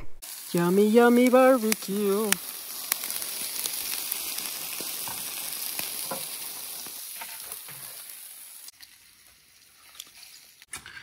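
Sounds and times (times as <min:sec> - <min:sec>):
meat sizzling on a charcoal grill: 0:00.2 - 0:10.7.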